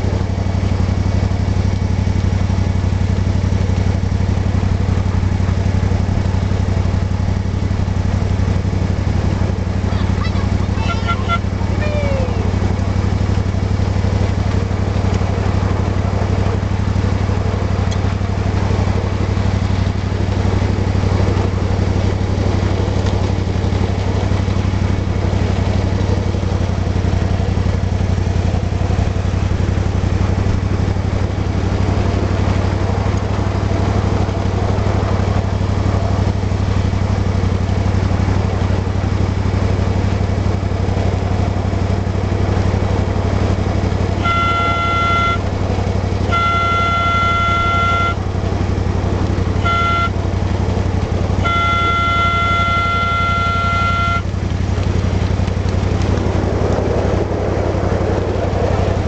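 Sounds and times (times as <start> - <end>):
model locomotive engine humming: 0.0 - 56.2.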